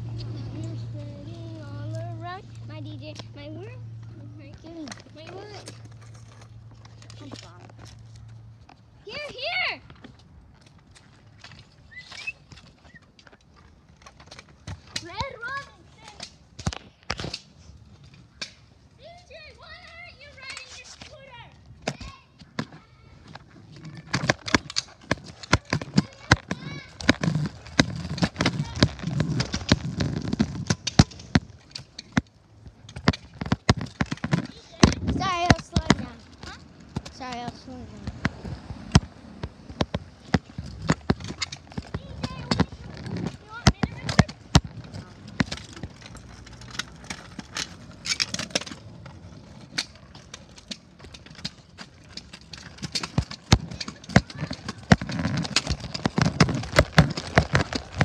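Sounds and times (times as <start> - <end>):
sharp irregular clicks and knocks: 9.8 - 58.0.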